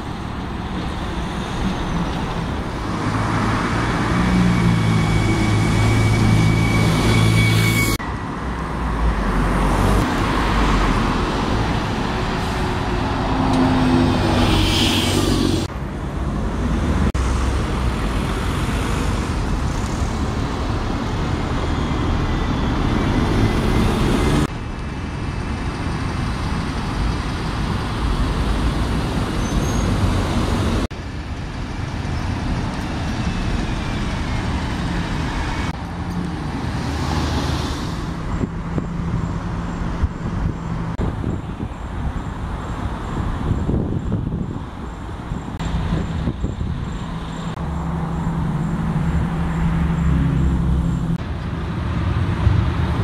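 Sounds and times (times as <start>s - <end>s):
bus engine drone: 0.0s - 53.0s
street traffic: 0.0s - 53.0s.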